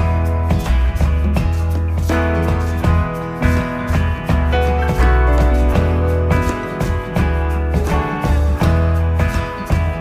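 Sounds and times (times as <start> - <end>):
light instrumental tune: 0.0 - 10.0
steady bass line: 0.0 - 10.0.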